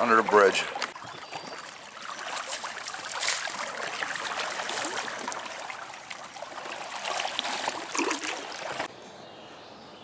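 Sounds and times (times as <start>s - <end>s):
paddle water splashing: 0.0s - 8.9s.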